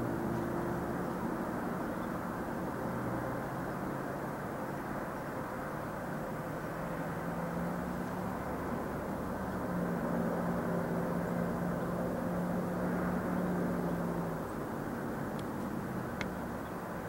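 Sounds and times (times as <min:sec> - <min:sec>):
low engine-like drone: 0:00.0 - 0:17.0
outdoor background noise: 0:00.0 - 0:17.0.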